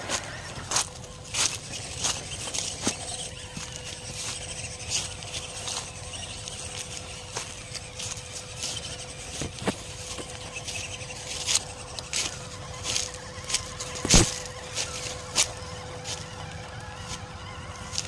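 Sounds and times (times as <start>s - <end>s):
crackles and clicks of leaves and twigs: 0.0s - 18.0s
faint steady hum: 0.0s - 18.0s.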